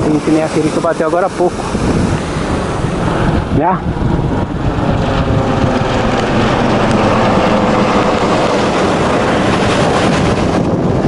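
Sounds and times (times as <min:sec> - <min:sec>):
helicopter flying overhead: 0:00.0 - 0:11.0
surf: 0:00.0 - 0:11.0
wind: 0:00.0 - 0:11.0.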